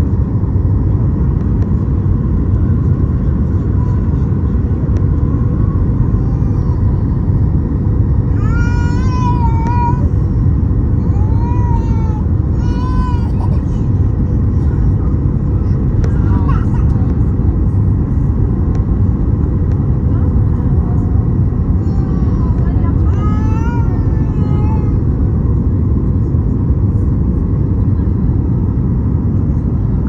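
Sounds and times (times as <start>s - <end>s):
airliner rumble: 0.0s - 30.0s.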